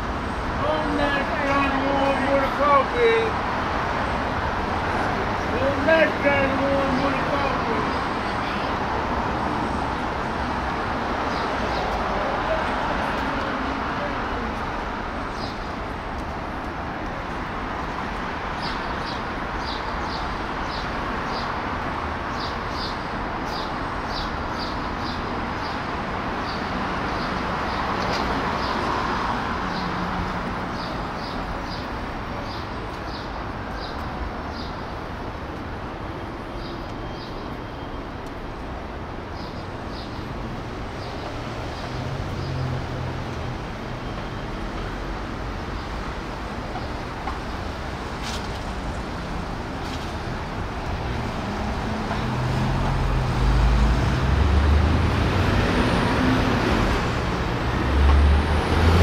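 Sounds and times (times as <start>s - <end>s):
traffic from passing cars: 0.0s - 59.0s.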